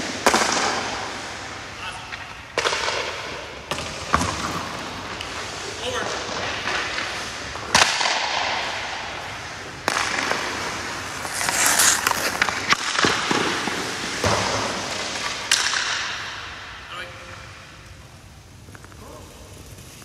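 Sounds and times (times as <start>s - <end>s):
hockey stick hitting puck: 0.0s - 17.6s
skate blades scraping ice: 0.0s - 20.0s.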